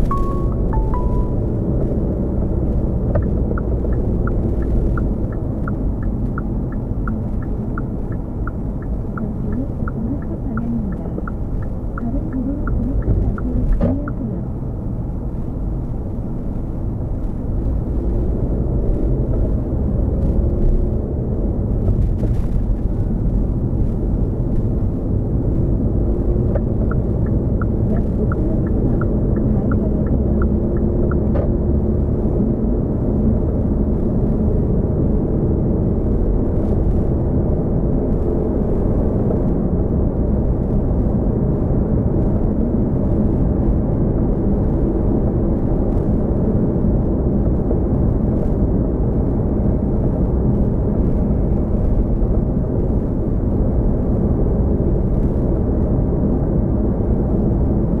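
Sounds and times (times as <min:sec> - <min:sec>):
car road rumble: 0:00.0 - 0:58.0.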